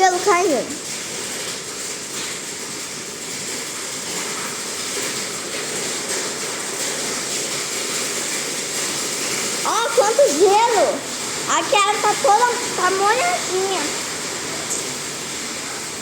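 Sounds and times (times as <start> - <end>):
hail falling: 0.0 - 16.0
heavy rain: 0.0 - 16.0.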